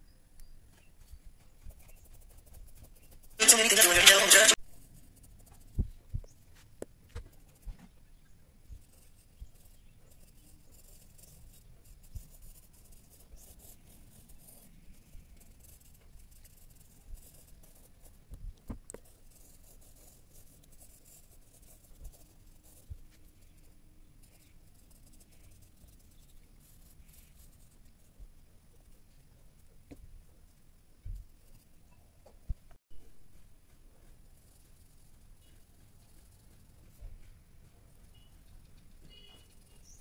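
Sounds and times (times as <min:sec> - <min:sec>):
pencil scratching on paper: 0:01.0 - 0:06.0, 0:08.7 - 0:18.2, 0:18.9 - 0:30.0, 0:31.1 - 0:31.9, 0:33.9 - 0:40.0.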